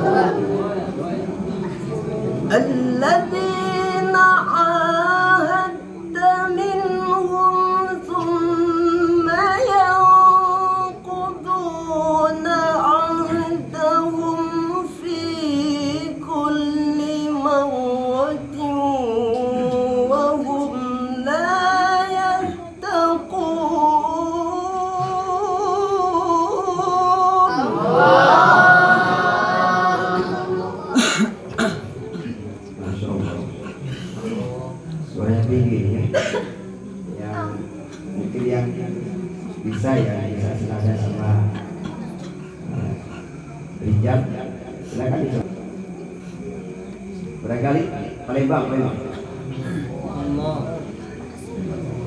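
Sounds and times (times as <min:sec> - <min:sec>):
man chanting recitation: 0:00.0 - 0:52.0.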